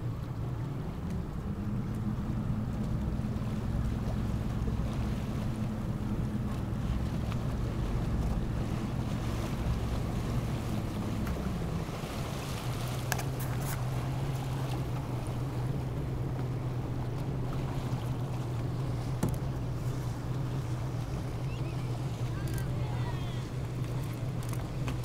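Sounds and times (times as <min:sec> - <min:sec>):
motorboat engine humming: 0:00.0 - 0:25.0
water noise: 0:00.0 - 0:25.0.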